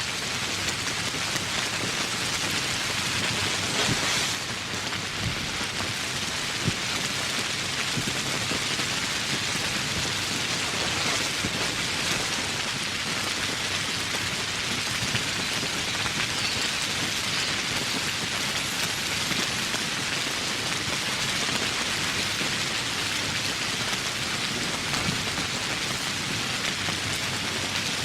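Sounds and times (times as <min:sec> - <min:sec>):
heavy rain on foliage: 0:00.0 - 0:28.0.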